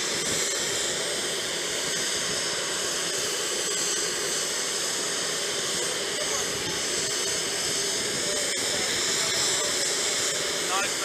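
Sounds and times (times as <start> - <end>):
aircraft turbine running: 0.0 - 11.0.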